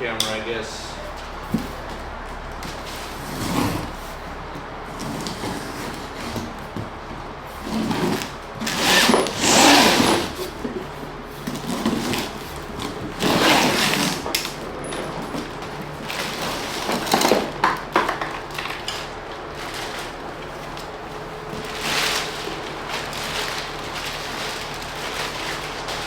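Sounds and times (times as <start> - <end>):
cardboard ripping and rustling: 2.7 - 17.6, 18.4 - 26.0.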